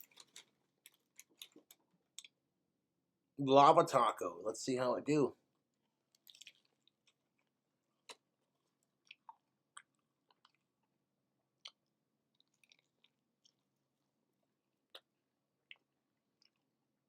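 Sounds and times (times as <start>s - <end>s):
chewing crunchy taco: 0.0s - 2.4s, 5.5s - 17.0s.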